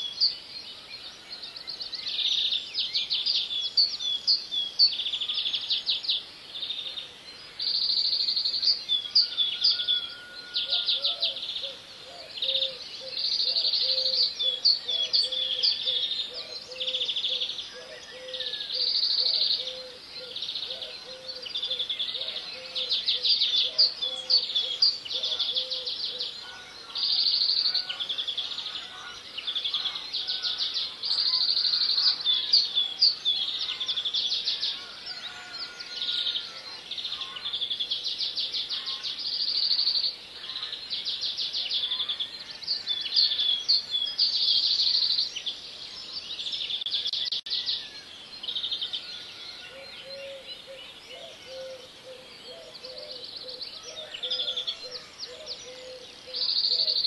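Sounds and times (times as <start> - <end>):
small birds singing: 0.0 - 57.0.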